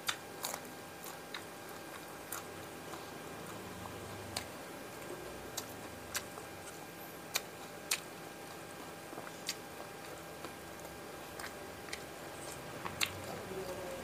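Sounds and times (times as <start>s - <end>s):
person chewing: 0.0s - 13.4s.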